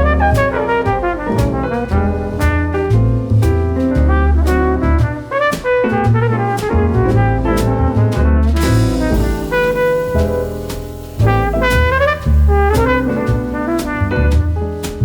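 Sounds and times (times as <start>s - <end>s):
jazzy brass band music: 0.0s - 15.0s.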